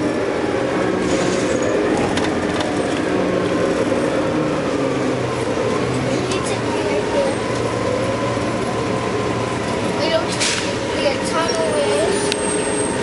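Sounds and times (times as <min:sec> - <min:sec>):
bus engine drone: 0:00.0 - 0:13.0
road noise: 0:00.0 - 0:13.0.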